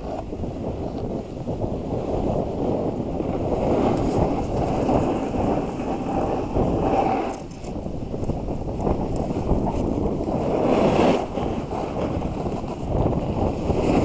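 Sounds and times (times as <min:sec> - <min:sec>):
skis hissing on snow: 0:00.0 - 0:07.8, 0:08.4 - 0:14.0
wind buffeting microphone: 0:00.0 - 0:14.0.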